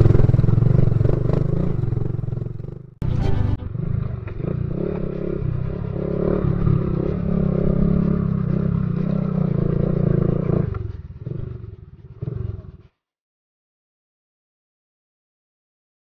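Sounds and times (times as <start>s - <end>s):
motorcycle engine under load: 0.0s - 12.9s.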